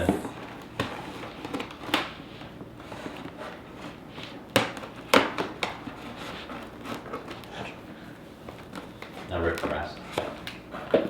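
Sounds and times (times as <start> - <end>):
cardboard and tape rustling: 0.0 - 11.0.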